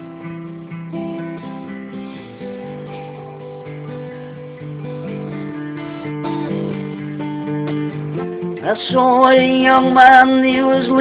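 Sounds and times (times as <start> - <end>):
acoustic guitar music: 0.0 - 11.0
person singing folk song: 0.0 - 11.0.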